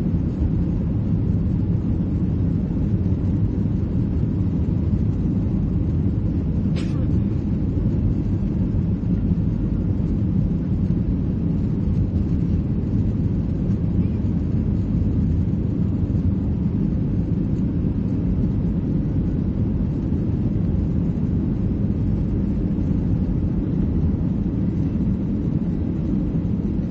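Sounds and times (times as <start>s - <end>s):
aircraft cabin engine rumble: 0.0s - 26.9s.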